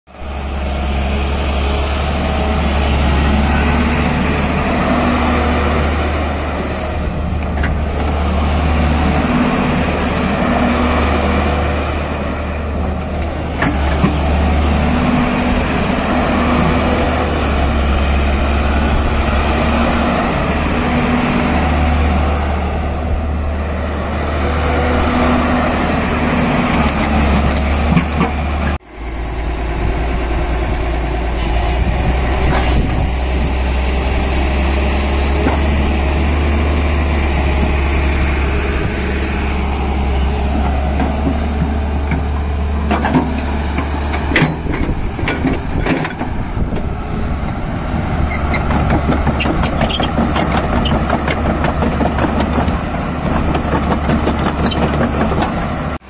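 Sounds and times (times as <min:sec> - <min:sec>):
excavator diesel engine running: 0:00.1 - 0:56.0.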